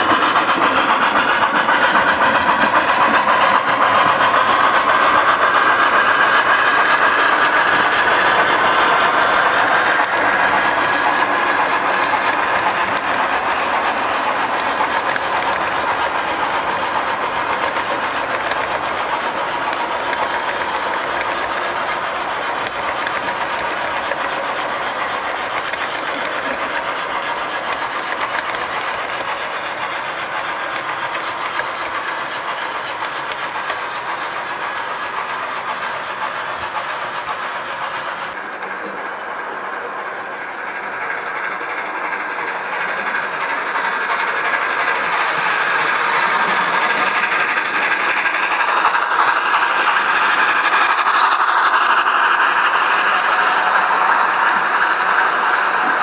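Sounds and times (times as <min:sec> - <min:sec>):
model train rolling on rails: 0:00.0 - 0:56.0.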